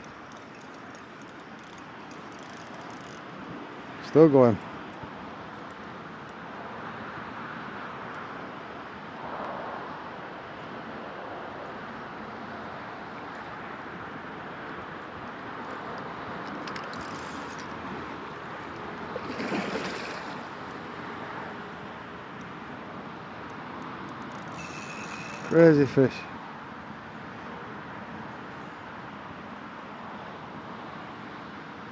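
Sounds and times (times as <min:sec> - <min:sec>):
wind: 0:00.0 - 0:31.9.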